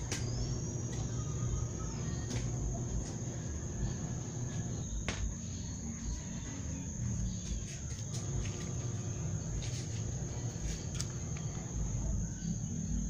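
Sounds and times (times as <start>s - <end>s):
high-pitched insect trill: 0.0s - 13.0s
low microphone rumble: 0.0s - 13.0s.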